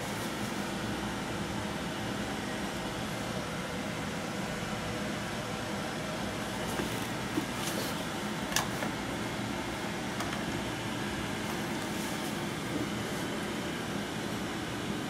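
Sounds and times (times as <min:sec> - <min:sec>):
steady room hum and hiss: 0:00.0 - 0:15.0.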